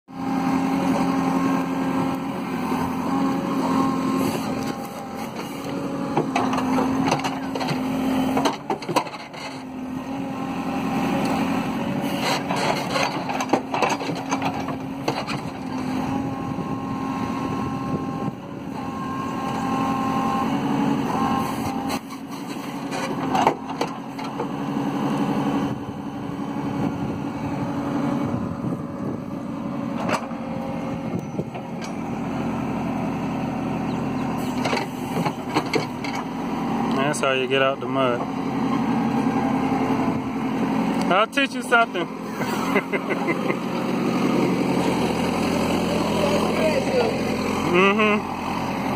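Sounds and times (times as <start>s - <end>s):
diesel engine running hard: 0.1s - 48.9s.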